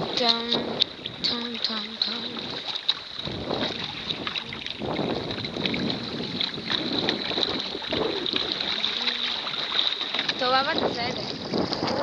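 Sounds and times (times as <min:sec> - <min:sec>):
small splashes: 0:00.0 - 0:12.0
water rushing along a hull: 0:00.0 - 0:12.0
wind buffeting microphone: 0:00.0 - 0:12.0.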